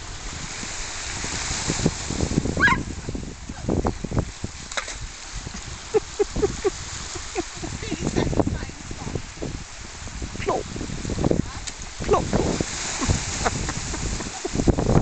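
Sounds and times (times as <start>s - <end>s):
waves washing over pebbles: 0.0s - 15.0s
wind on microphone: 0.0s - 15.0s.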